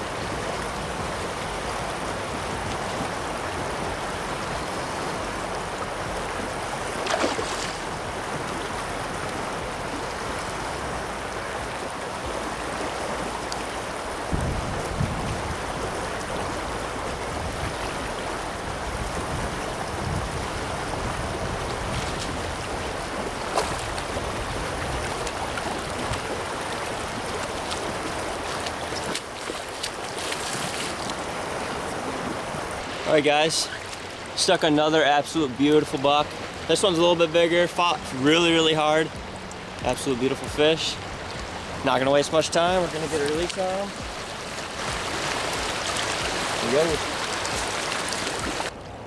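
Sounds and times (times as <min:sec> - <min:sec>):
river running over gravel: 0:00.0 - 0:49.0.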